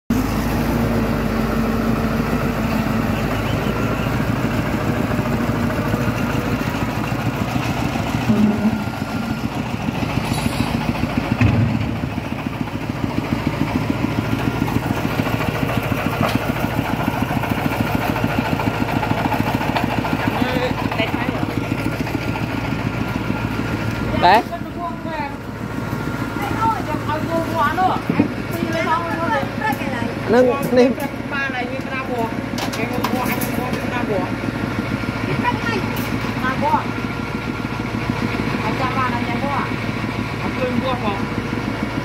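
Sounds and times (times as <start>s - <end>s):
machine engine idling: 0.1s - 42.0s.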